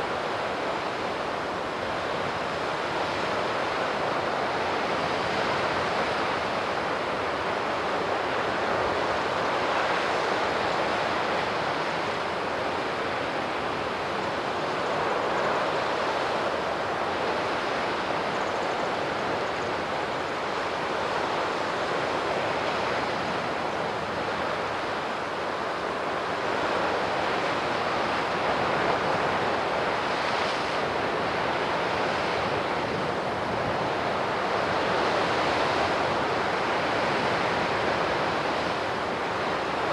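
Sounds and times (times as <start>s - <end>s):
surf washing on shore: 0.0s - 39.9s.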